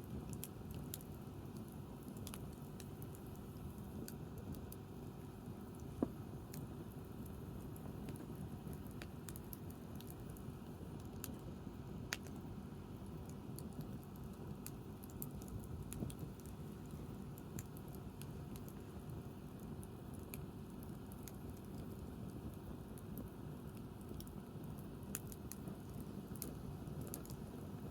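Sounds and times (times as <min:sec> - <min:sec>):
fire rumbling: 0:00.0 - 0:27.9
wood fire crackling: 0:00.0 - 0:27.9.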